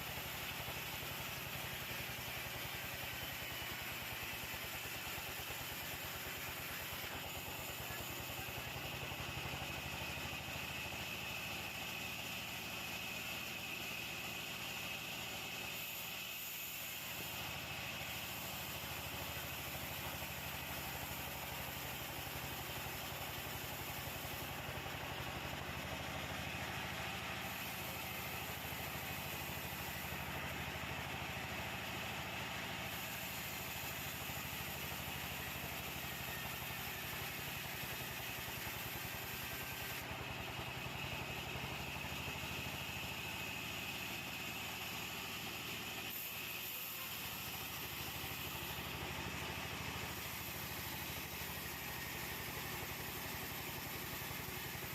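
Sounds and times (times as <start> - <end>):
sawmill engine humming: 0.0 - 54.9.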